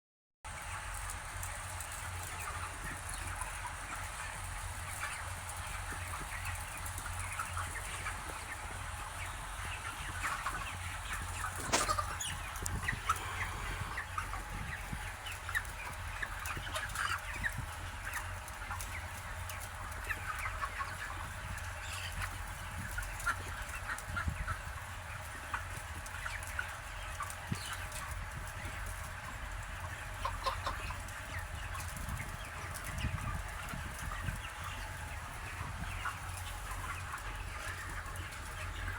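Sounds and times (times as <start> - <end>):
chickens clucking and cheeping: 0.5 - 38.9.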